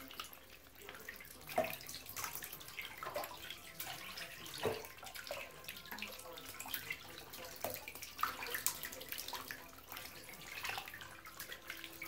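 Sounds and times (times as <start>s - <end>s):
plinking drips: 0.0s - 12.0s.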